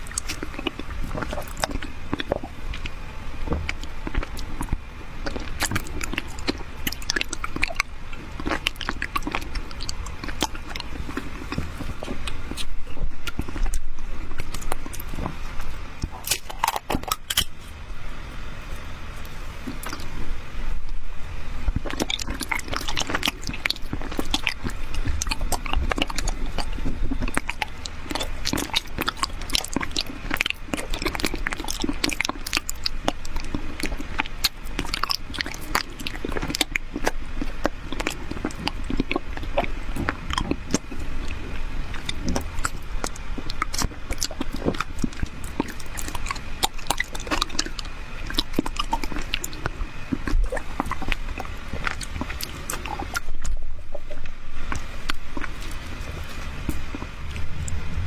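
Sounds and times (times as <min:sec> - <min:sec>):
sharp mouth clicks: 0:00.0 - 0:17.6, 0:21.7 - 0:57.9
person biting and chewing jelly: 0:00.0 - 0:21.0, 0:21.7 - 0:58.0.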